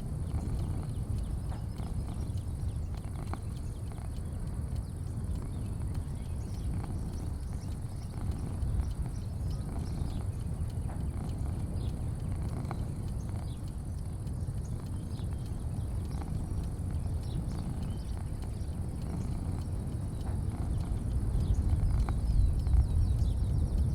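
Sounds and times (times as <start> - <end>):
faint chirps and ticks: 0.0 - 23.9
low rumble: 4.2 - 23.9.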